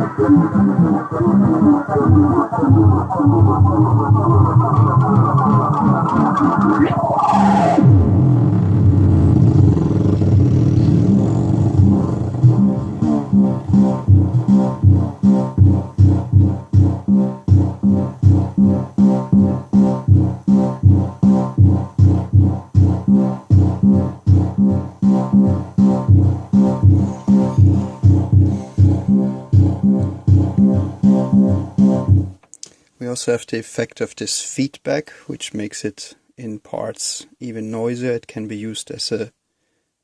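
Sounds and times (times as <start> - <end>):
synthesizer short pitched notes: 0.0 - 32.4.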